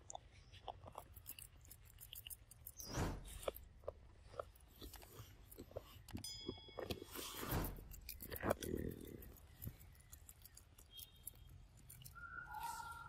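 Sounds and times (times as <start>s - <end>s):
monkey chewing: 0.0s - 13.0s.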